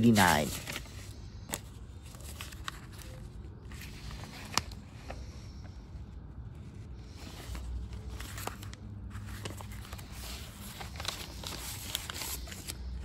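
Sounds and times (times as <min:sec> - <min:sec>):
paper sheets rustling: 0:00.0 - 0:05.6, 0:06.7 - 0:13.0.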